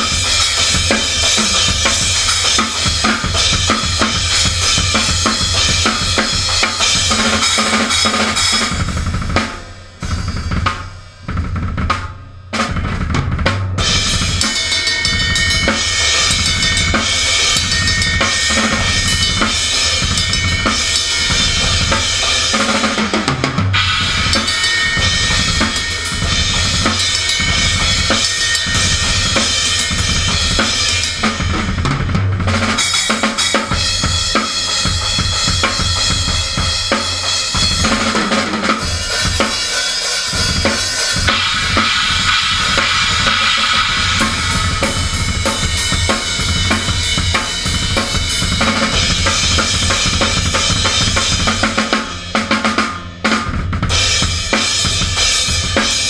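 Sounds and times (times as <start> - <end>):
cymbals washing: 0.0 - 13.1, 13.8 - 56.0
bass drum and snare beat: 0.0 - 56.0.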